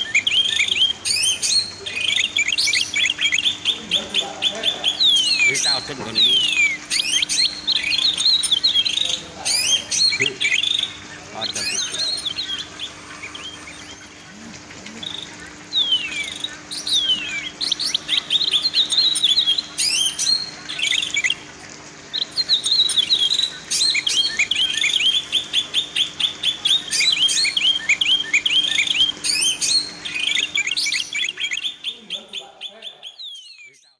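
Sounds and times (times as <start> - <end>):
songbird chirping and trilling: 0.0 - 33.9.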